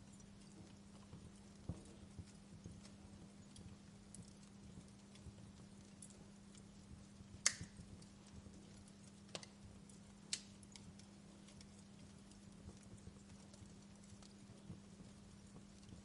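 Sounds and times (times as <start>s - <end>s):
faint low hum: 0.0s - 16.0s
wood fire crackling: 0.0s - 16.0s.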